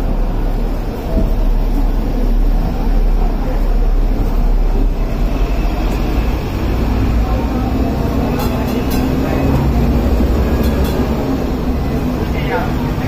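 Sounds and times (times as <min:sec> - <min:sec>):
buses running: 0:00.0 - 0:13.0
tram rumbling on rails: 0:00.0 - 0:13.0.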